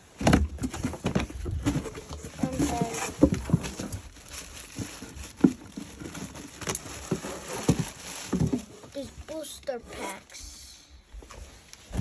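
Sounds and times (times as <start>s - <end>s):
foil packs rustling: 0.0s - 10.1s.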